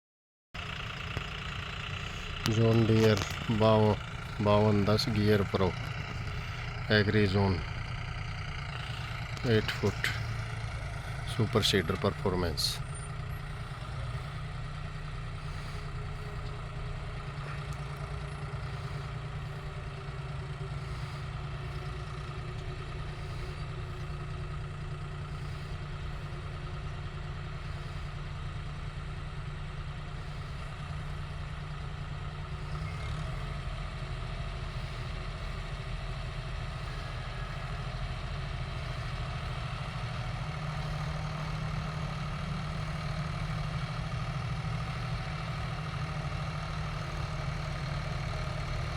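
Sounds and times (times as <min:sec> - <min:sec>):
tractor diesel engine under load: 0:00.6 - 0:48.9.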